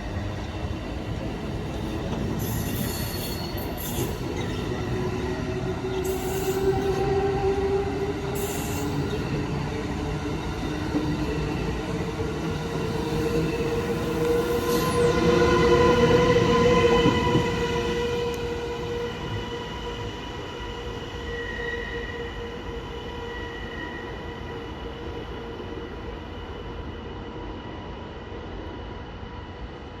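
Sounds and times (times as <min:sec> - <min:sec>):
electric train whine: 0:00.0 - 0:30.0.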